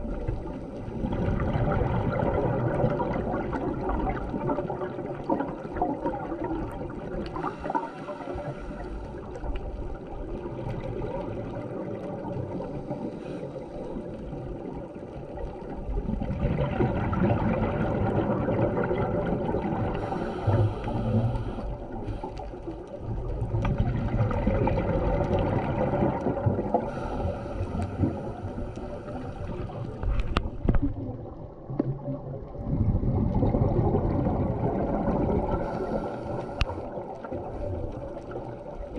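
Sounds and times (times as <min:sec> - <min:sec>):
steady underwater hum: 0:00.0 - 0:38.9
underwater air bubbles gurgling: 0:00.0 - 0:38.9.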